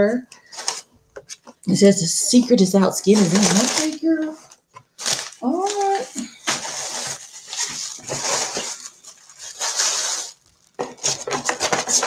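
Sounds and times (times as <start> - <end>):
tissue paper rustling and crinkling: 2.3 - 12.0.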